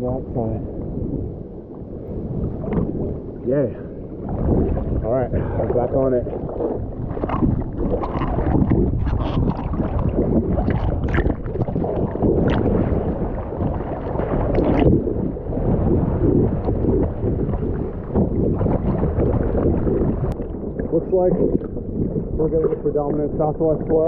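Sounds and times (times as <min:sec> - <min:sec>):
seawater sloshing and splashing: 0:03.8 - 0:24.0.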